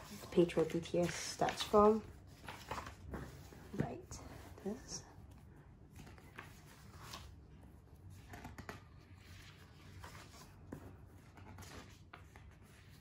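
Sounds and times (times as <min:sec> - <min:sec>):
magazine pages turning: 0:00.0 - 0:03.8, 0:05.9 - 0:13.0.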